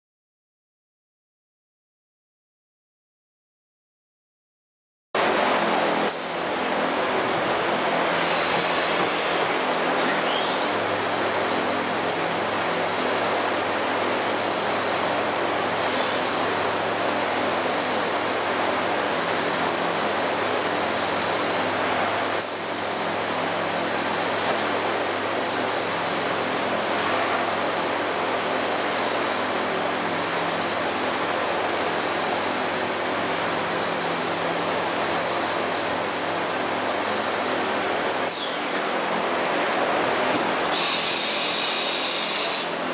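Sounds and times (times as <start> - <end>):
loud machine noise: 5.2 - 42.9
high spindle whine: 6.1 - 38.9, 40.5 - 42.9.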